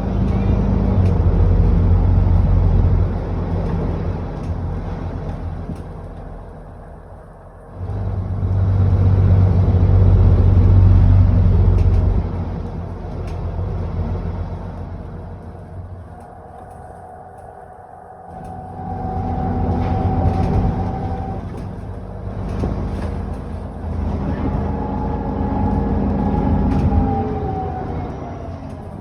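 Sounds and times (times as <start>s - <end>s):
bus engine running: 0.0s - 29.0s
high whine of bus: 0.0s - 29.0s.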